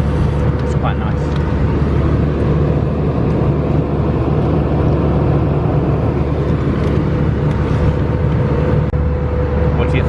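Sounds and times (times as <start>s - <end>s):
aircraft cabin engine and airflow rush: 0.0s - 10.0s.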